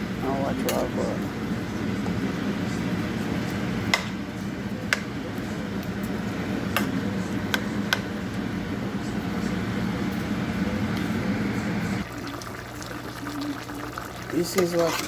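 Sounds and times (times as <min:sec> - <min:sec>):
stew simmering: 0:00.0 - 0:15.0.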